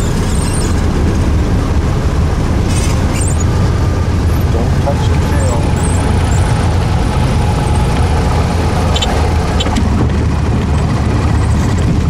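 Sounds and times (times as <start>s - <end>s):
airplane engine drone in cabin: 0.0s - 12.0s.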